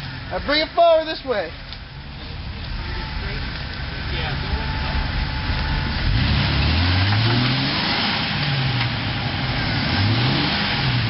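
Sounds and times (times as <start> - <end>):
engine revving under load: 2.0 - 11.0.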